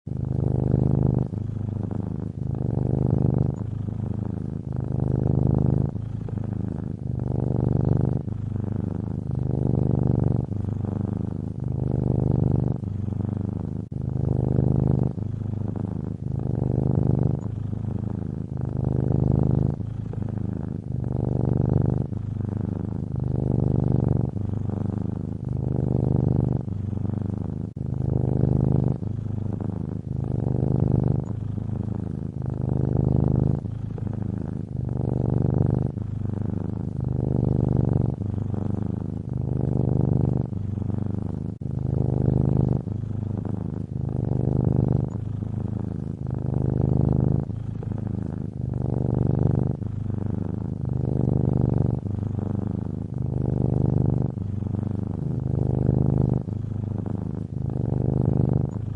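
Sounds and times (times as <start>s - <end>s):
cat snoring: 0.0s - 58.9s.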